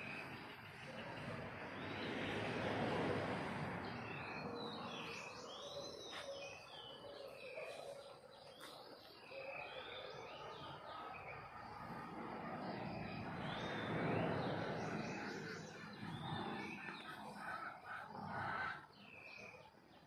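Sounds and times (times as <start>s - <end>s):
birds singing: 0.0s - 20.0s
steady outdoor hiss: 0.0s - 20.0s.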